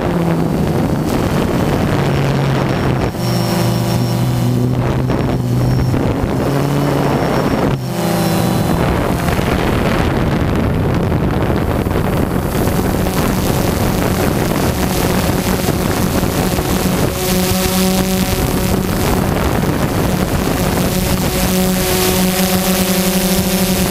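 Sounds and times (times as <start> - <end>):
drone propellers humming: 0.0 - 23.9
wind rush on microphone: 0.0 - 23.9.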